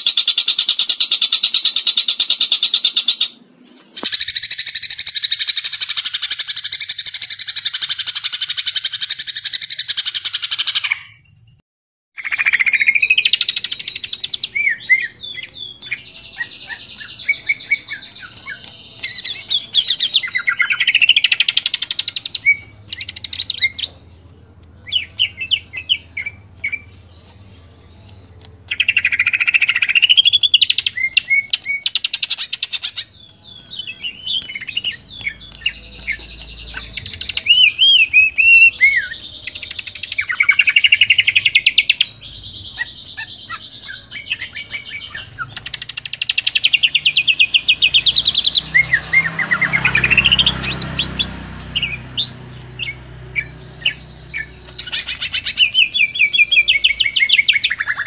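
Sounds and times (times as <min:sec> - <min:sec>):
bird singing varied song: 0:00.0 - 0:11.6, 0:12.2 - 0:58.0.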